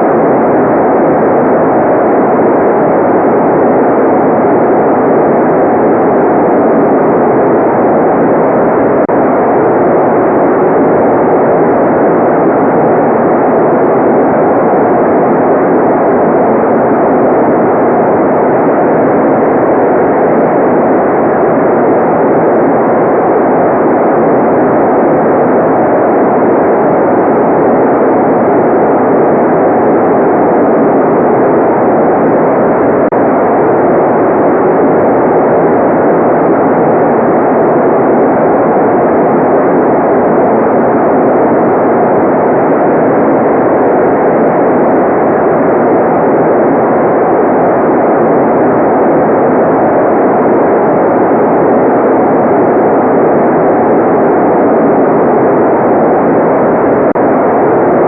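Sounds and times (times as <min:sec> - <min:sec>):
electronic white noise: 0:00.0 - 0:58.0.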